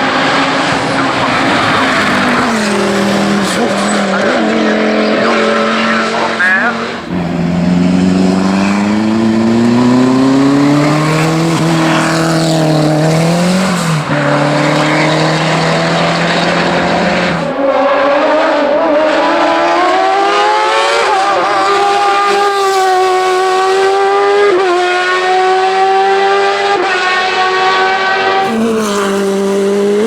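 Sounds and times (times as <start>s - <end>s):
car engine at high revs: 0.0s - 30.0s
race car engine accelerating: 0.0s - 30.0s.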